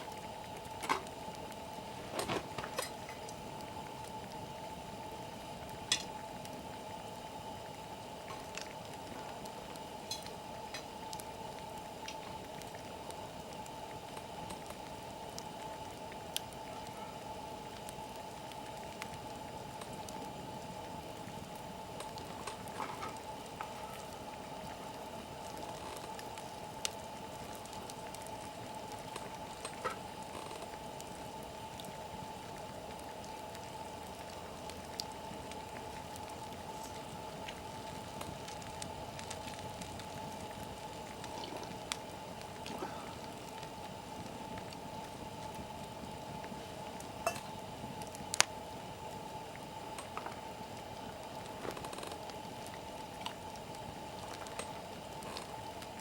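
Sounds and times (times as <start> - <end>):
campfire crackling: 0.0 - 56.0
wood fire hissing: 0.0 - 56.0.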